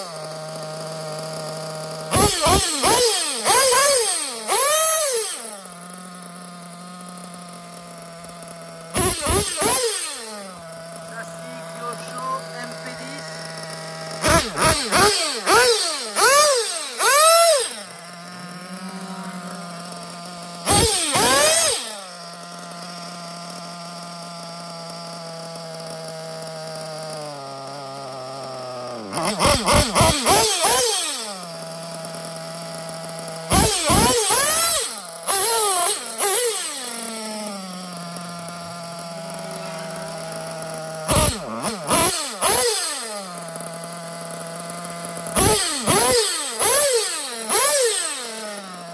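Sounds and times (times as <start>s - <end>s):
model nitro engine idling and revving: 0.0s - 48.9s.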